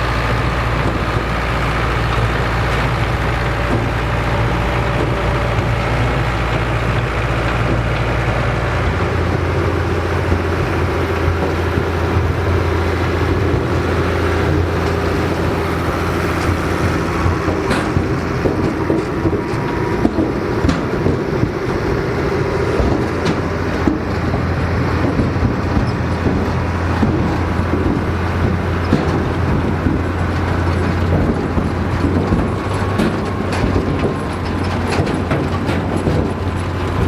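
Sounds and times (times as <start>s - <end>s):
harvesting machinery clatter: 0.0s - 37.0s
tractor engine running: 0.0s - 37.0s.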